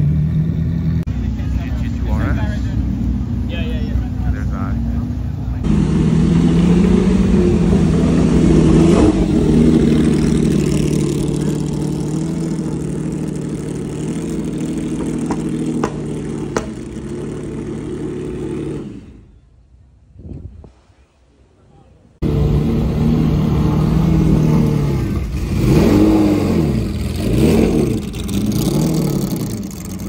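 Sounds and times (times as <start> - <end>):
car engine running: 0.0 - 19.2, 22.2 - 30.0.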